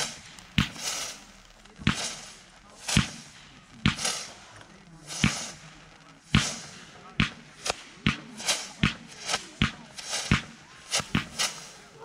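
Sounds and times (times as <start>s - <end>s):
crackling hiss: 0.0s - 12.0s
firework bangs: 0.0s - 12.0s.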